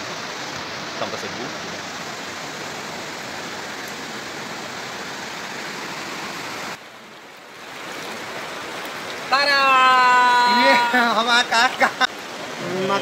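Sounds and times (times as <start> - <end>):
fast-flowing river rushing: 0.0 - 13.0.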